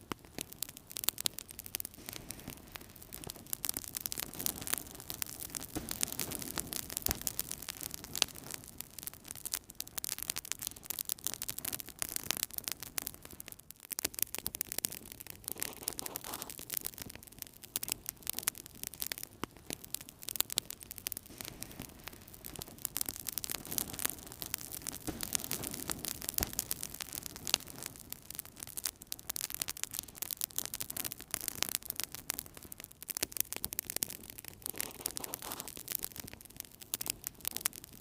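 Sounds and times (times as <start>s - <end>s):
wood fire crackling and popping: 0.0s - 38.0s
low rush of flames: 0.1s - 13.4s, 14.3s - 32.8s.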